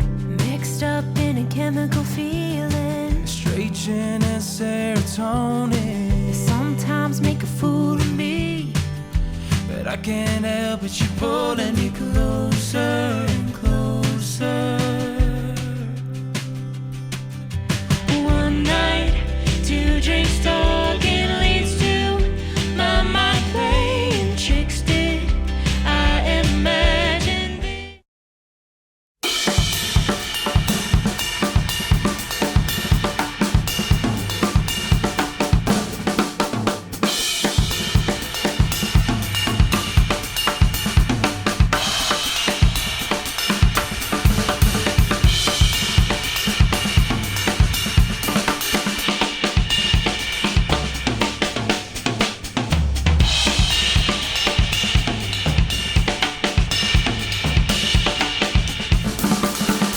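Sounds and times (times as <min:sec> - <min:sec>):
drum kit playing a steady beat: 0:00.0 - 0:27.8, 0:29.2 - 0:59.9
bass line: 0:00.0 - 0:28.0, 0:29.7 - 0:48.9, 0:50.6 - 0:59.9.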